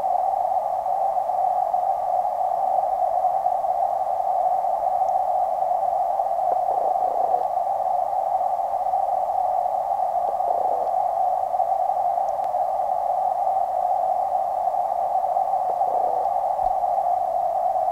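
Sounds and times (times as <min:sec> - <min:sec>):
muffled underwater hiss: 0:00.0 - 0:17.9.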